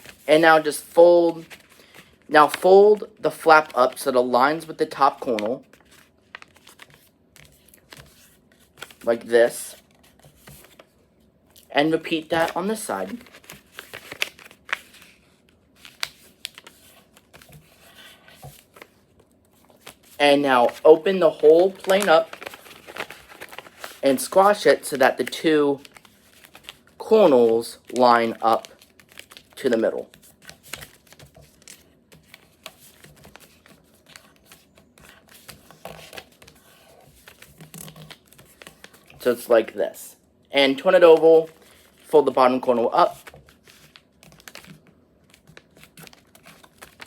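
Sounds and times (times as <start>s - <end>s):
paper being folded and creased: 0.0s - 10.9s, 12.2s - 19.0s, 19.6s - 39.3s, 41.1s - 47.0s.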